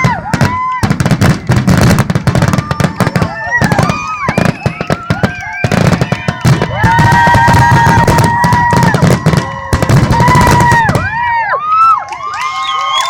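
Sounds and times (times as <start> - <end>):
whistling firework shells: 0.0 - 11.1
fireworks crackling bangs: 0.0 - 11.4.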